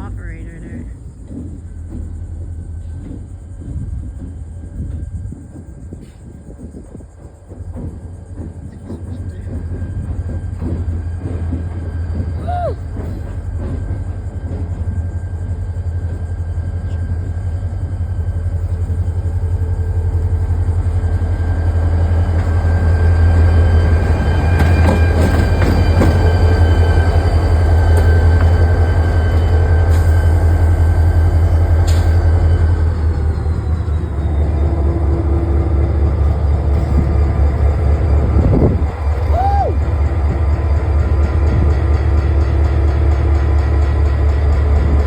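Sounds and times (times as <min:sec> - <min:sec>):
diesel locomotive engine: 0:00.0 - 0:45.0.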